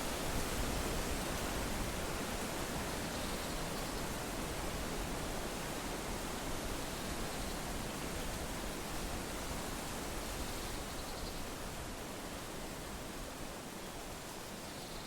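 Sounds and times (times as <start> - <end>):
wind blowing through trees: 0.0 - 15.0.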